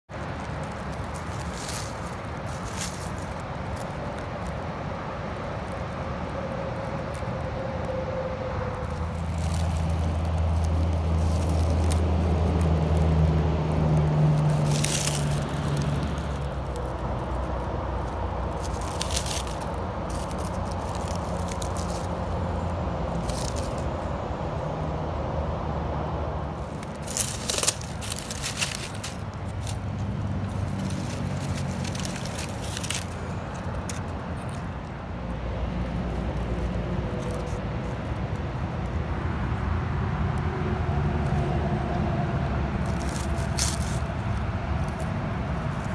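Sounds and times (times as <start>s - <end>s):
dry leaves and twigs crackling: 0.1s - 45.9s.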